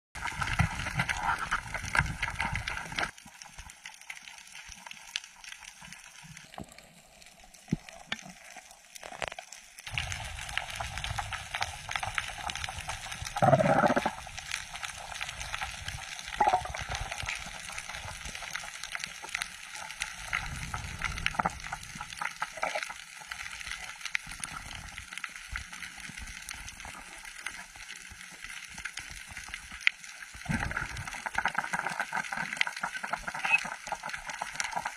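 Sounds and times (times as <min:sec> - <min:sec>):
fine crackle of tiny clicks: 0:00.2 - 0:34.9
low underwater noise: 0:00.2 - 0:34.9.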